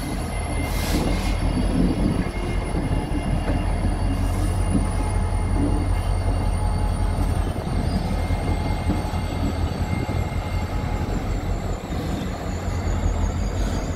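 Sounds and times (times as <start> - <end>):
diesel locomotive rumble: 0.0 - 13.9.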